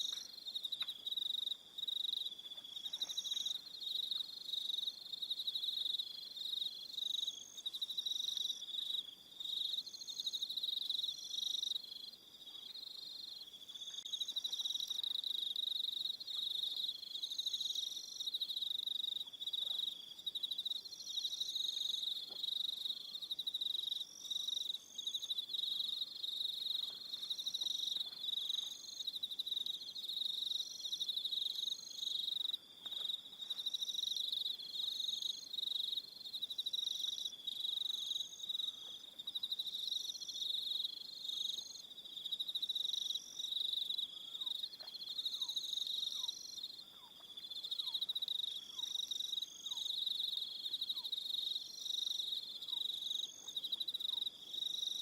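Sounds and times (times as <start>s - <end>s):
crickets trilling: 0.0s - 55.0s
higher cricket chirps: 0.0s - 55.0s.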